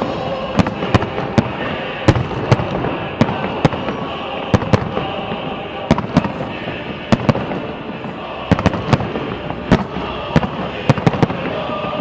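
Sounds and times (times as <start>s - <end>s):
continuous din: 0.0s - 12.0s
fireworks bangs: 0.0s - 12.0s.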